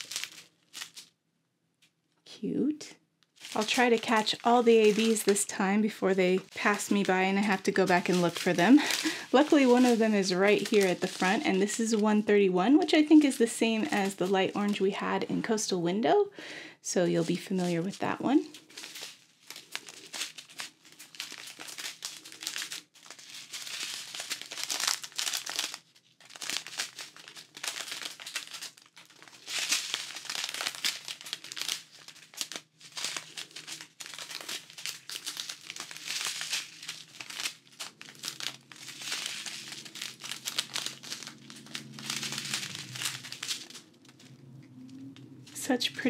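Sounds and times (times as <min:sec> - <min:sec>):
plastic bags crinkling: 0:00.0 - 0:01.2, 0:03.3 - 0:46.0.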